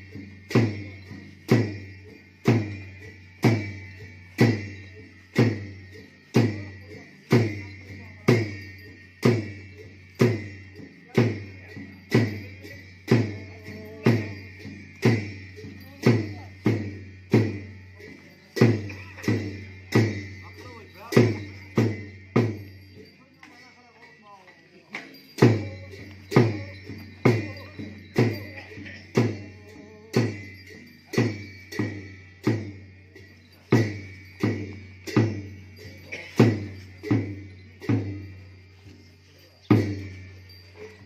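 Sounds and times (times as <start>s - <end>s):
steady ringing high tone: 0.0s - 41.0s.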